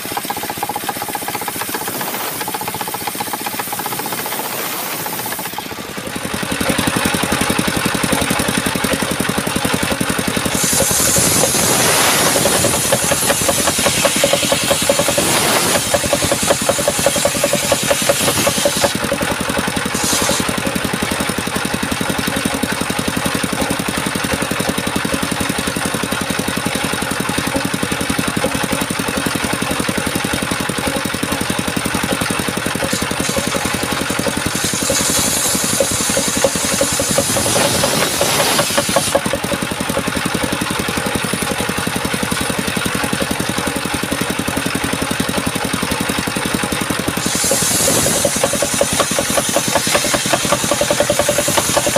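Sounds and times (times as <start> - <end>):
small petrol engine running: 0.0 - 51.9.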